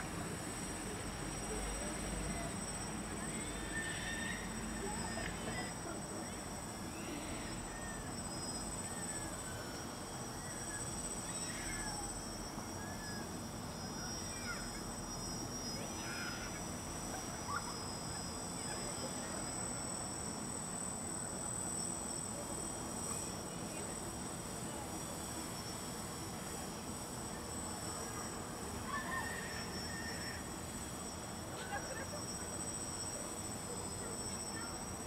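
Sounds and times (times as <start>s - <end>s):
thin high-pitched whine: 0.0s - 35.0s.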